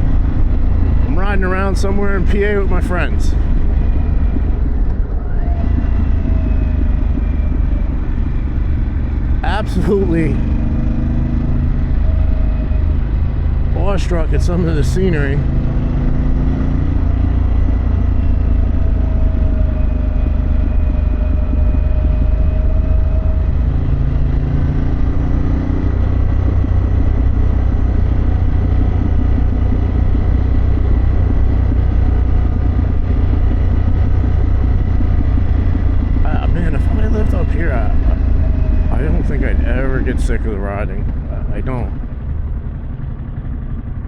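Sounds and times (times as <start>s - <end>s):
motorcycle engine rumbling: 0.0s - 44.0s.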